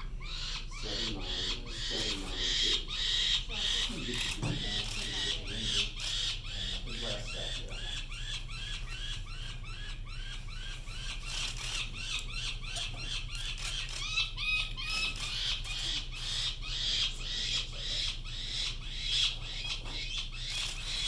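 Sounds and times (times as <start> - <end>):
falcon nestling calling: 0.0 - 21.0
lower-pitched bird calls: 0.0 - 21.0.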